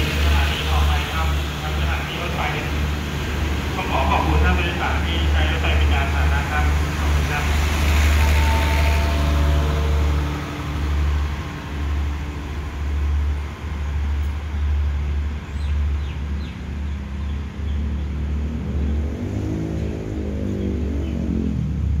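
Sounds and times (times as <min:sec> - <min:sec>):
passenger train rumbling: 0:00.0 - 0:22.0.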